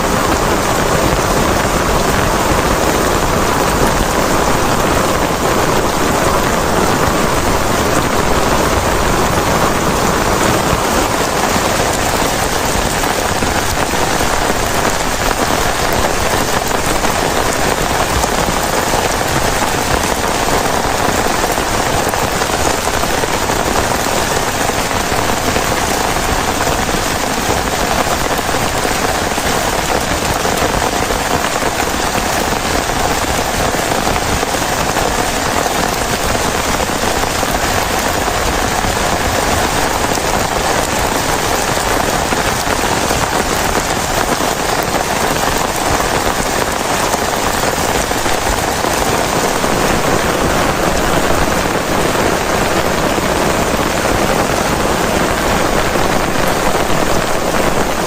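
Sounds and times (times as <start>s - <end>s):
heavy rain on plastic tarp: 0.0s - 58.0s.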